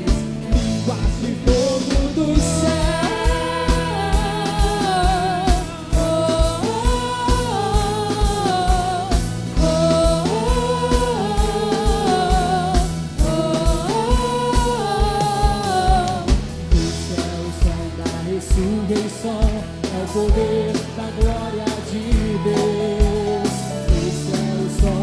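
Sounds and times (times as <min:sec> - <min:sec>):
steady drum beat: 0:00.0 - 0:25.0.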